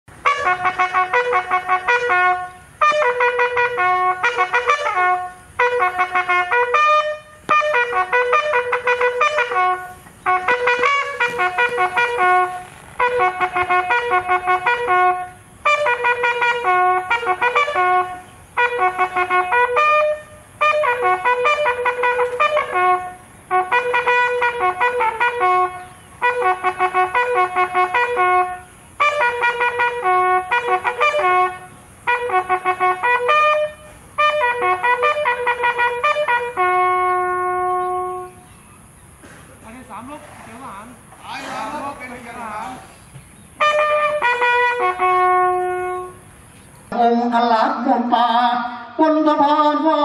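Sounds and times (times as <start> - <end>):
bugle call: 0.1 - 38.5, 41.2 - 42.9, 43.6 - 46.3.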